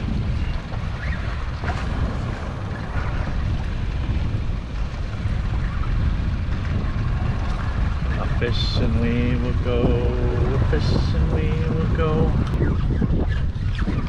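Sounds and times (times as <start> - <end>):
boat noise on open water: 0.0 - 14.0
wind rumble: 0.0 - 14.0.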